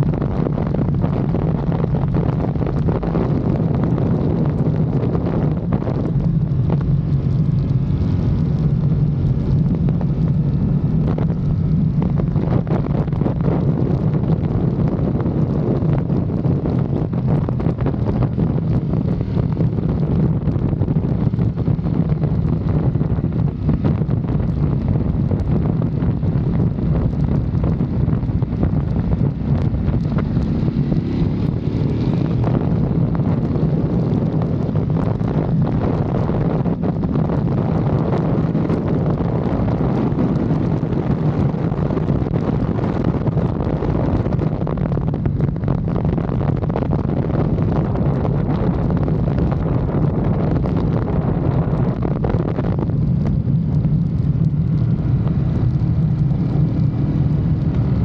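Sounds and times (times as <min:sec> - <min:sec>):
motorcycle engine droning: 0:00.0 - 0:58.0
wind buffeting microphone: 0:00.0 - 0:58.0.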